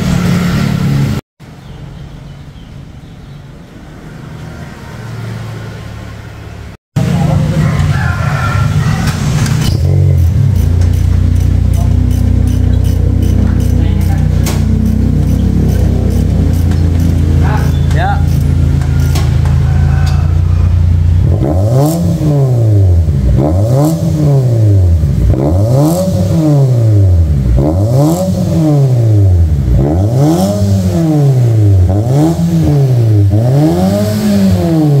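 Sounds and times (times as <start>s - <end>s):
car engine idling and revving: 0.0s - 2.6s, 3.5s - 35.0s.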